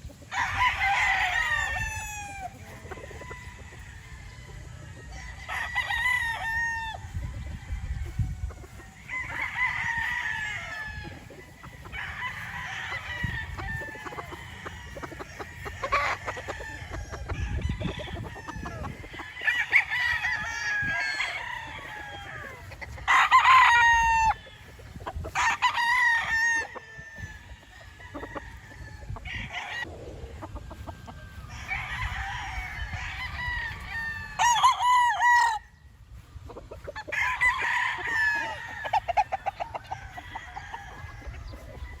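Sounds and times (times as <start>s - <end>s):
roosters crowing: 0.0s - 42.0s.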